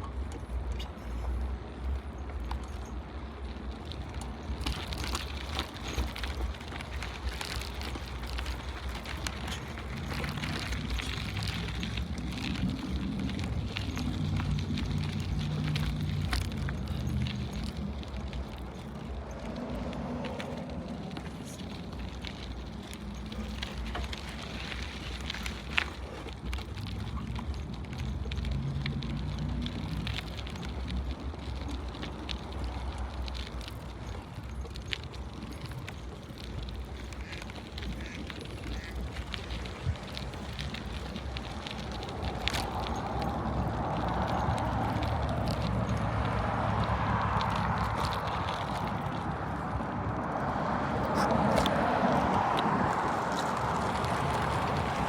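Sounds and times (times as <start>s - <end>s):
crackling ticks: 0.0s - 55.0s
tyres rolling on rough trail: 0.0s - 55.0s
wind rumbling on microphone: 0.0s - 55.0s.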